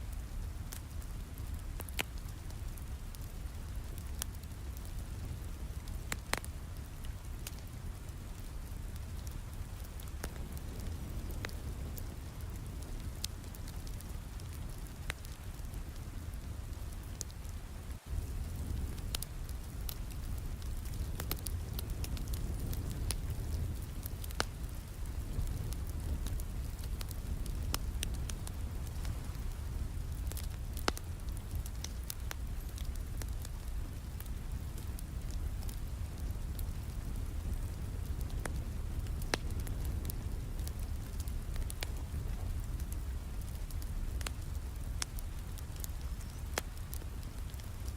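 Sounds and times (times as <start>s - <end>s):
steady rain: 0.0s - 47.9s
wood fire crackling and popping: 0.0s - 47.9s.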